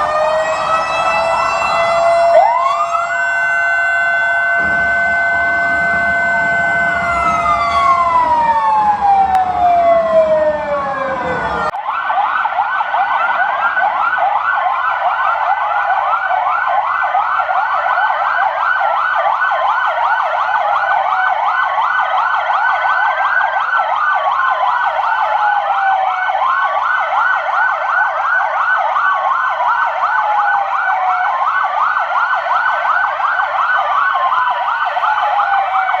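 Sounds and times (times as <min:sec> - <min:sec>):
police sirens wailing: 0:00.0 - 0:36.0.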